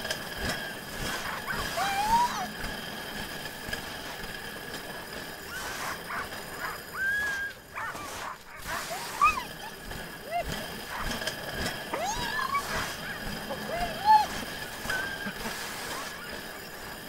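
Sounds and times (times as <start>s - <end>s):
sled dogs whining and yelping: 0.4s - 17.0s.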